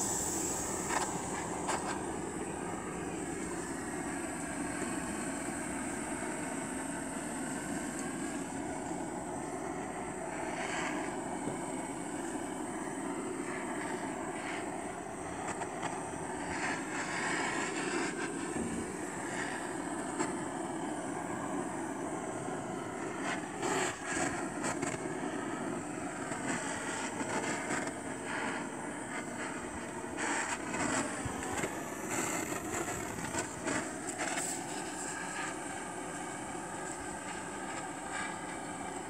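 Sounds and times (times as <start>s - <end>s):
butane torch roaring hiss: 0.0s - 39.0s.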